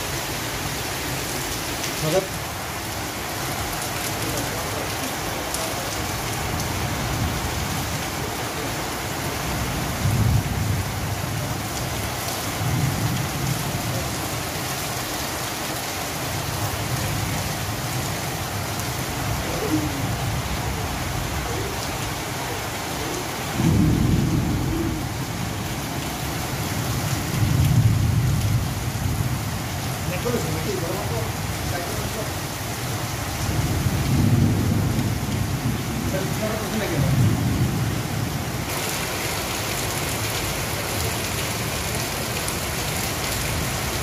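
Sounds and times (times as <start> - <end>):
rain on a tin roof: 0.0 - 44.0.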